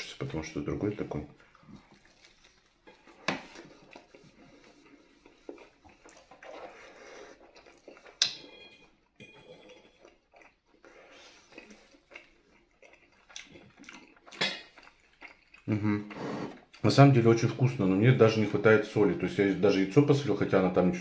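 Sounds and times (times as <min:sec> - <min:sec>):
person chewing: 0:00.0 - 0:16.9.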